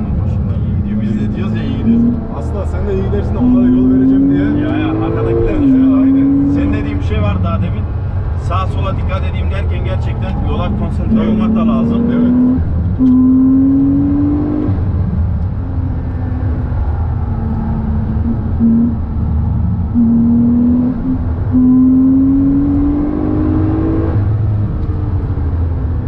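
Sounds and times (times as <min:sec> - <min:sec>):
car engine revving: 0:00.0 - 0:26.0
low road rumble: 0:00.0 - 0:26.0.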